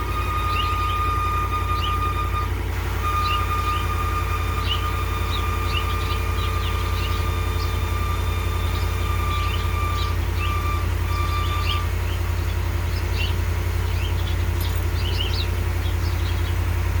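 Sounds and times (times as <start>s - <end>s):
high-pitched belt squeal: 0.0s - 16.8s
truck engine idling: 0.0s - 17.0s.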